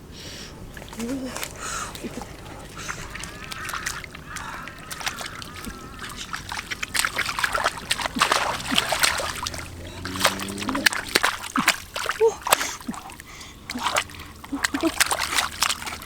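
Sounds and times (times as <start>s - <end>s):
shallow water sloshing and splashing: 0.0s - 16.0s.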